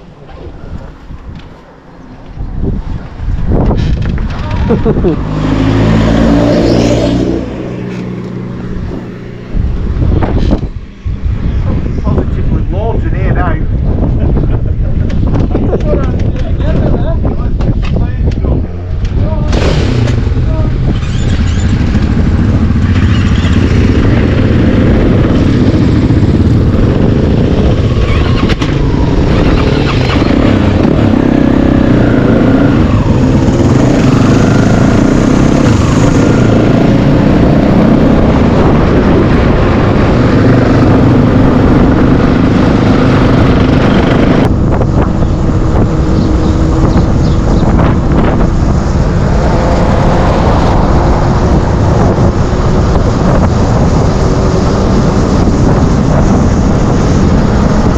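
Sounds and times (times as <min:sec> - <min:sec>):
motorcycle engine revving: 0:02.7 - 0:12.8, 0:13.7 - 0:57.9.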